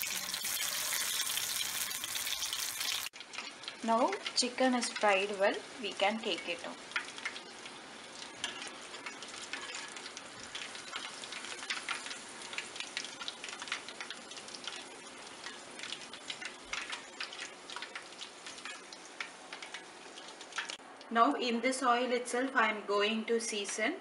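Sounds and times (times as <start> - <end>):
chicken deep-frying in oil: 0.0 - 20.8.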